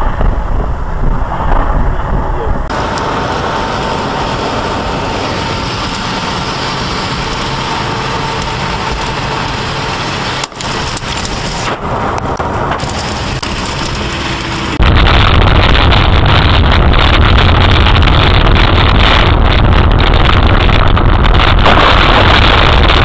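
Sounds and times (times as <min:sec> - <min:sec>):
car driving road noise: 0:00.0 - 0:23.0.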